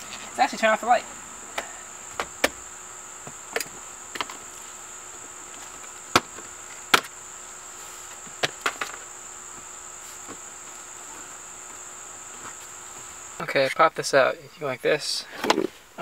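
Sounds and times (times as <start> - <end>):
crickets droning: 0.0 - 16.0.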